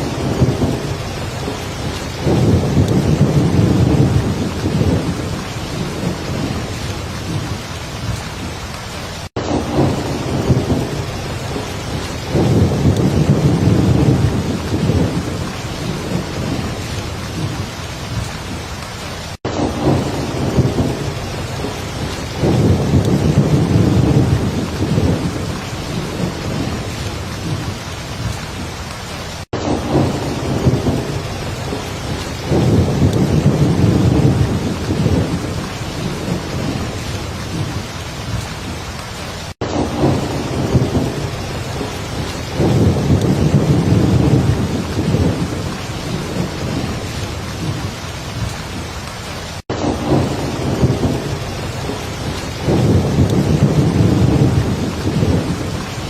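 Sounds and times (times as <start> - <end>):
low thunder rumbling: 0.0 - 28.9, 29.6 - 56.0
heavy rain: 0.0 - 56.0.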